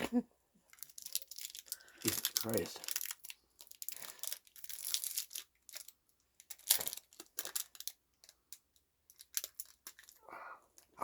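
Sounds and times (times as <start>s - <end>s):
candy wrapper crinkling and tearing: 0.6s - 11.0s.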